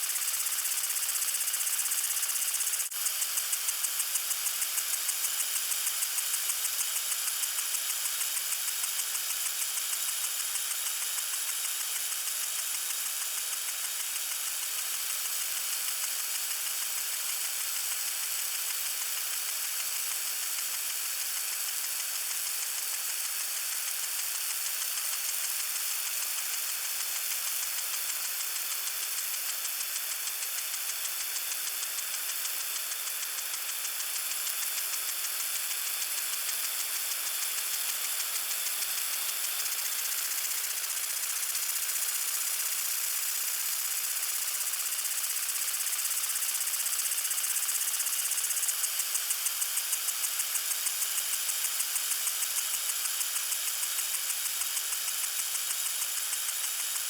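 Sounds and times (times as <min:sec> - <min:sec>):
water sprinkler pulsing spray: 0:00.0 - 0:57.0.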